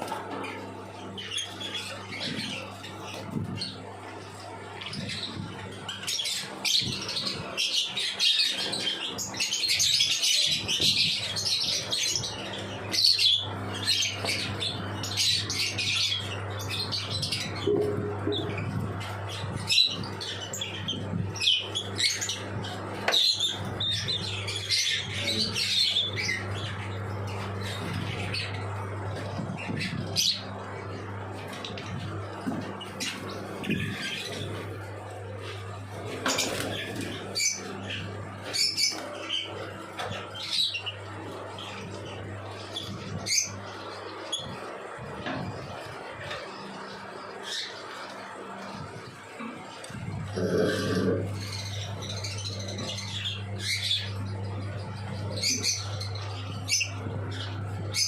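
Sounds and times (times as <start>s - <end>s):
birds chirping and squawking: 0.0s - 58.0s
steady low hum: 0.0s - 58.0s.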